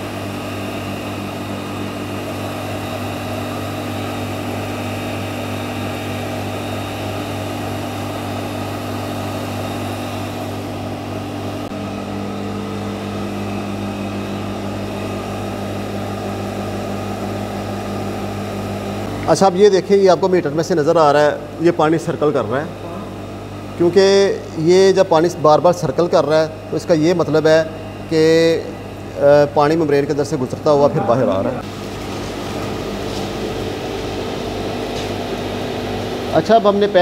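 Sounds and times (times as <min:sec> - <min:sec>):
electric pump humming: 0:00.0 - 0:37.0.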